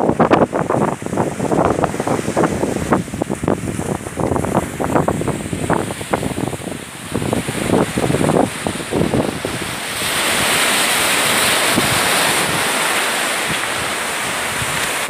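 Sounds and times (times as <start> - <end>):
waves breaking on shore: 0.0 - 15.0
wind buffeting microphone: 0.0 - 15.0.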